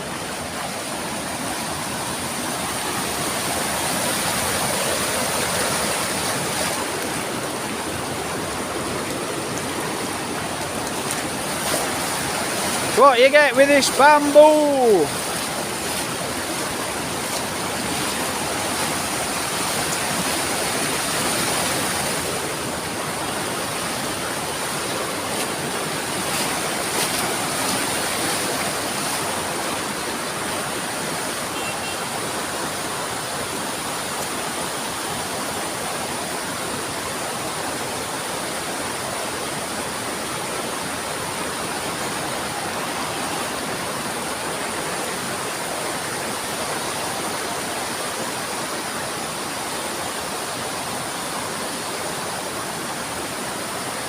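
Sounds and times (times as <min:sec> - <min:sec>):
water rushing over waterfall: 0:00.0 - 0:54.0.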